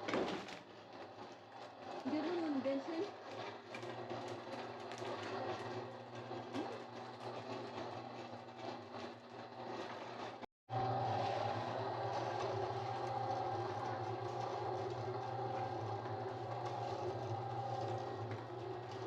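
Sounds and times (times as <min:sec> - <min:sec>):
concrete mixer motor humming: 0:00.0 - 0:19.0.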